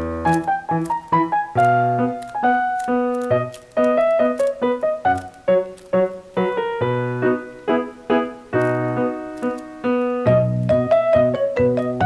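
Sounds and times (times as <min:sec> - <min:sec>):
lively piano music: 0:00.0 - 0:12.0.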